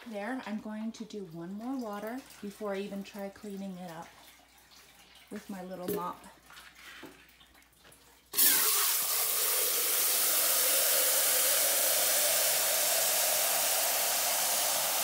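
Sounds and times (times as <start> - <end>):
hose water filling metal pail: 0.0 - 15.0.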